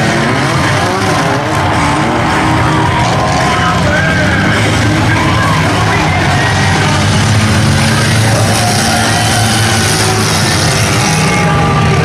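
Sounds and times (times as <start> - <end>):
race car engine passing: 0.0 - 12.0.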